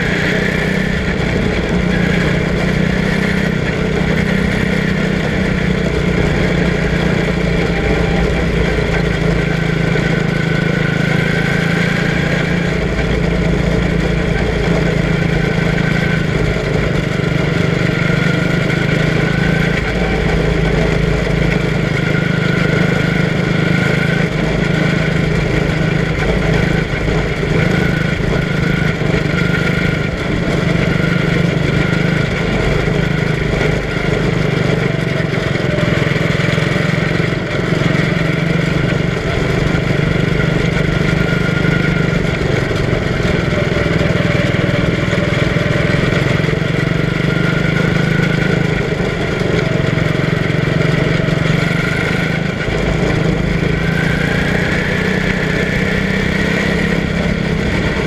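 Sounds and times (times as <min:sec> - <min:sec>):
small race car engine running: 0:00.0 - 0:58.0.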